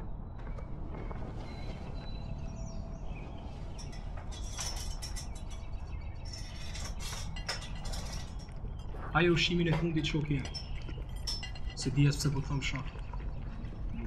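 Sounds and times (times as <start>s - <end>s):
bird chirps: 0.3s - 14.0s
rustling and clinking handling: 1.6s - 9.0s, 9.7s - 13.8s.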